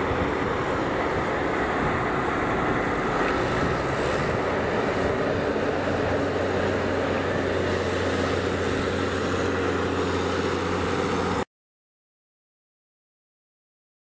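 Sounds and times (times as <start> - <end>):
tractor diesel engines running: 0.0 - 11.4.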